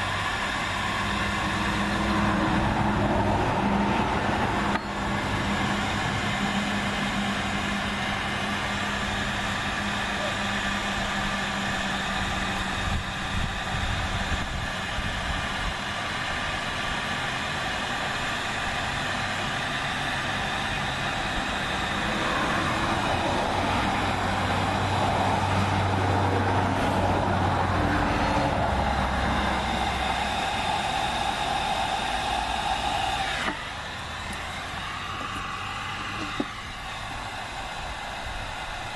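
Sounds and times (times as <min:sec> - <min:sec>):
heat gun fan motor whine: 0:00.0 - 0:38.9.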